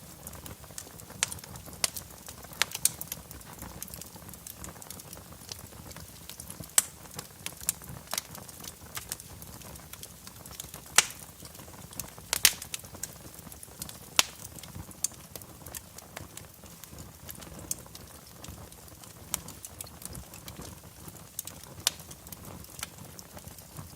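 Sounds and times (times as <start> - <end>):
fire crackling and popping: 0.0 - 23.9
soft steady hiss: 0.0 - 23.9.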